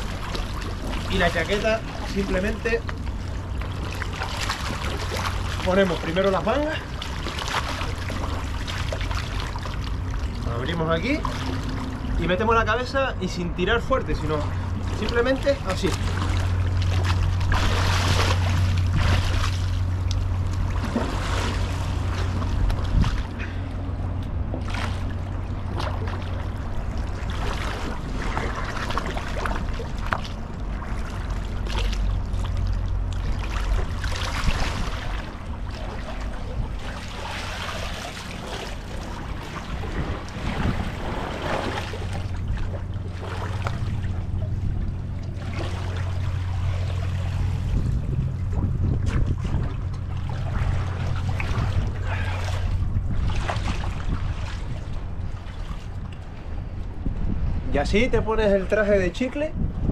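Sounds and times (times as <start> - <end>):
water splashing around swimmer: 0.0 - 12.4, 14.2 - 56.4
steady low hum: 0.0 - 59.9.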